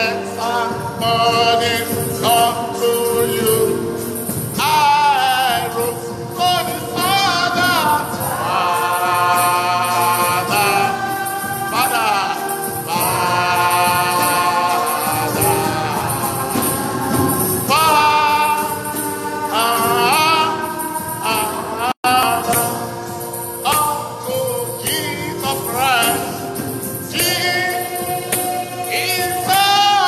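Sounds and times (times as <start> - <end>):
backing music: 0.0 - 30.0
person singing with vibrato: 0.0 - 30.0.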